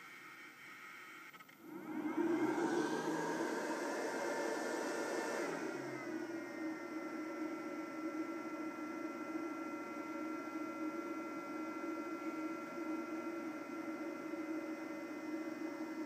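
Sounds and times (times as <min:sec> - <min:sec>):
power supply hum and whine: 0:00.0 - 0:16.0.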